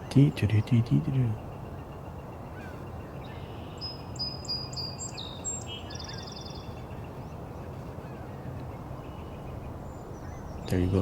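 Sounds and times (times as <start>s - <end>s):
high whistled birdsong and trill: 0.0s - 11.0s.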